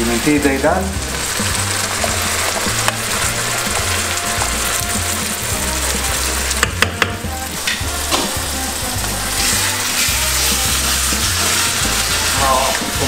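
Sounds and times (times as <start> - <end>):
sauce sizzling in a frying pan: 0.0 - 13.0
wooden spoon stirring: 1.0 - 13.0.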